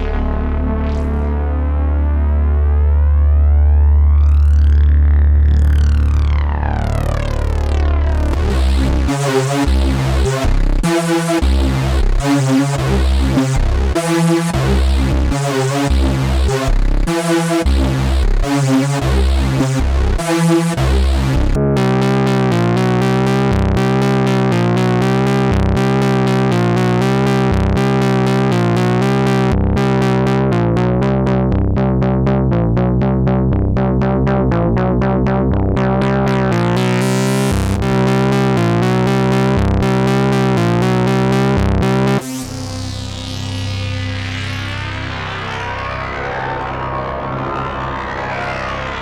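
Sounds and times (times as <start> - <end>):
low synthesizer drone: 0.0 - 49.0
synthesizer repeating note pattern: 0.0 - 49.0.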